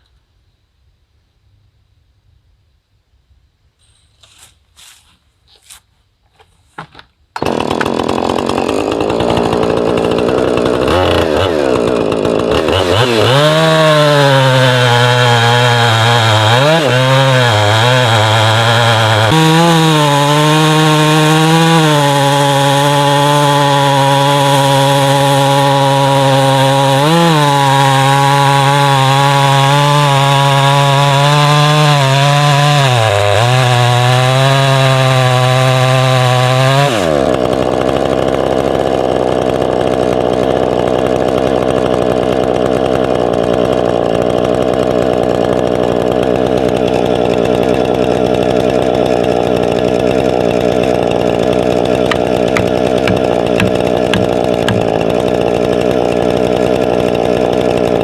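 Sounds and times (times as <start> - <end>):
small engine saw milling timber: 3.8 - 58.0.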